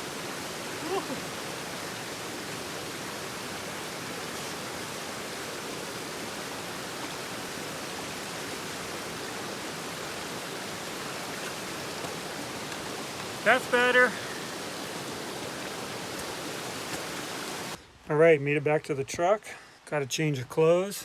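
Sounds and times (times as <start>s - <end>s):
river water rushing: 0.0s - 17.8s.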